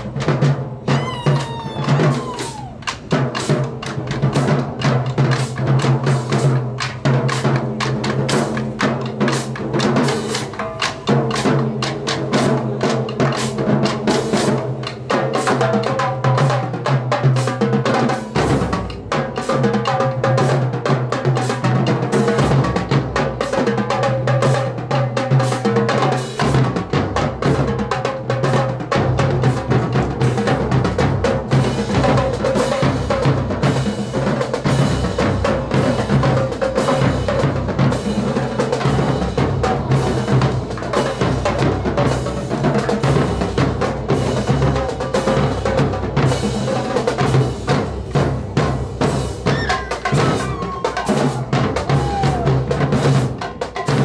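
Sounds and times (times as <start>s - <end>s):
marching bass drums: 0.0s - 54.0s
snare drum: 0.0s - 54.0s
tenor drums: 0.0s - 54.0s.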